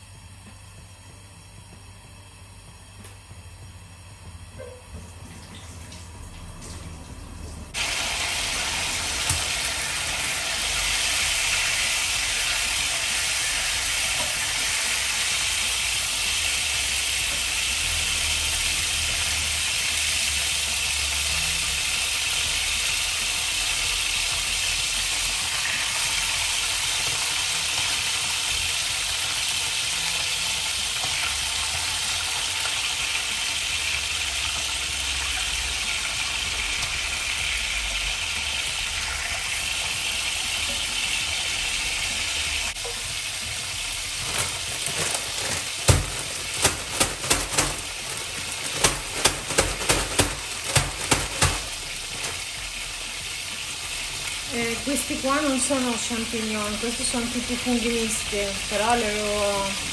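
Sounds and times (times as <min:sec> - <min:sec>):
meat sizzling in hot oil: 0:05.1 - 0:59.9.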